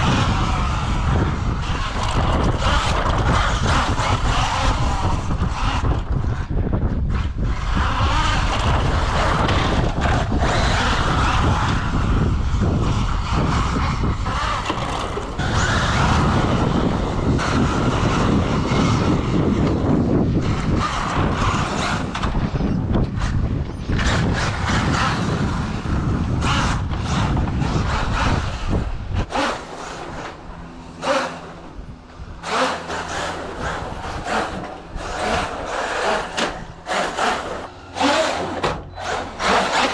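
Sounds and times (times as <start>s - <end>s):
rushing rumble of movement on boardwalk: 0.0s - 39.9s
wind on microphone: 0.0s - 39.9s.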